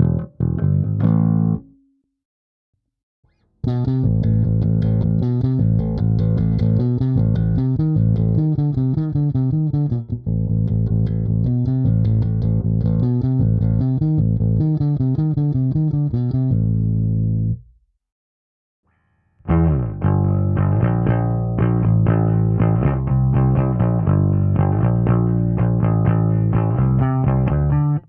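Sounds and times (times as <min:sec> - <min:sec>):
electric bass guitar notes: 0:00.0 - 0:01.8, 0:03.6 - 0:17.7, 0:19.4 - 0:28.0.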